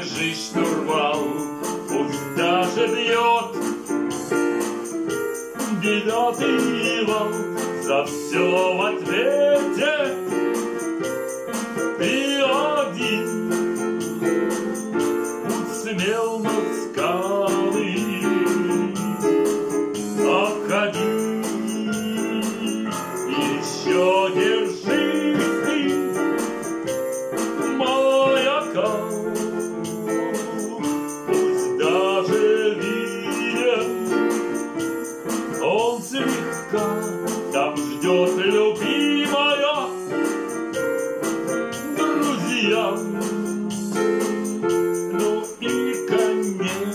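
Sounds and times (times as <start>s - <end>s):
digital keyboard playing chords and melody: 0.0s - 46.9s.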